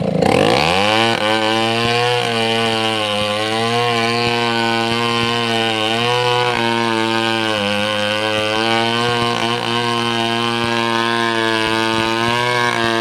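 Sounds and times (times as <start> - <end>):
two-stroke chainsaw engine running: 0.0 - 13.0.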